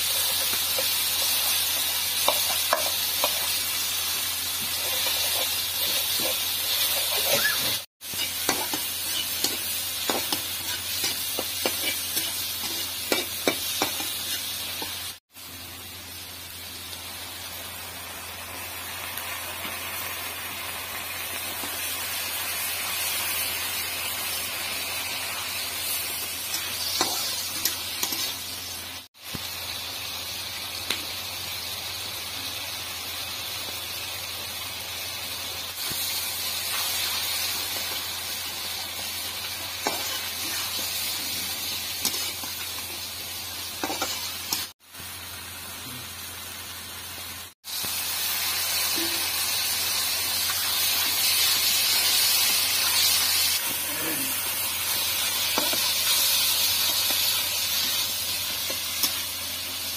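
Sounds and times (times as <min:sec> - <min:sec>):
masala sizzling in hot oil: 0:00.0 - 0:59.9.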